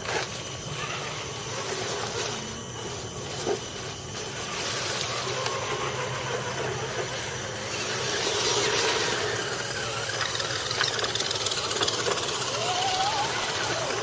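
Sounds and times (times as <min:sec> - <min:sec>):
remote control truck motor whining: 0:00.0 - 0:14.0.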